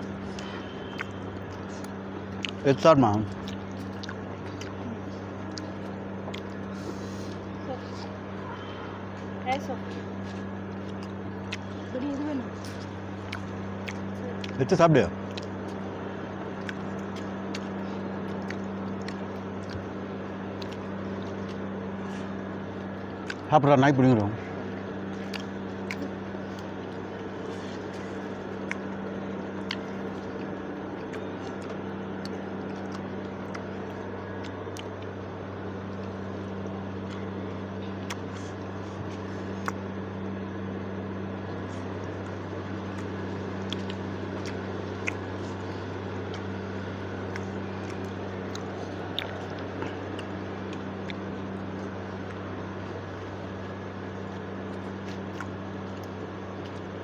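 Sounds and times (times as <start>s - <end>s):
people eating snacks: 0.0s - 53.5s
steady low hum: 0.0s - 57.0s.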